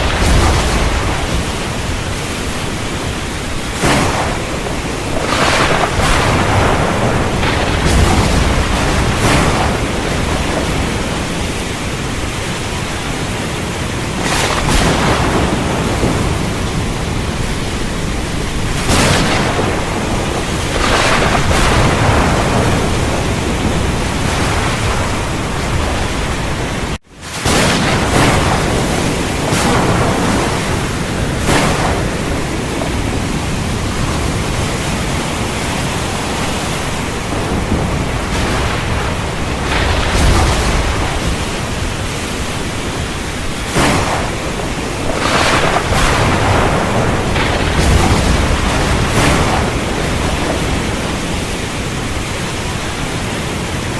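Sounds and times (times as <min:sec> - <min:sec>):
crackles: 0:00.0 - 0:53.2
thunder: 0:00.0 - 0:53.3
heavy rain falling: 0:00.0 - 0:53.9.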